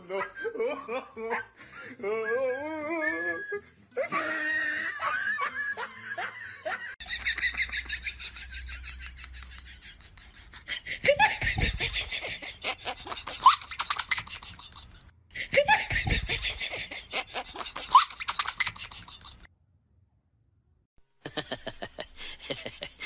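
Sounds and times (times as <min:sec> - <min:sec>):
high-pitched giggling: 0:00.0 - 0:03.1, 0:03.9 - 0:19.5.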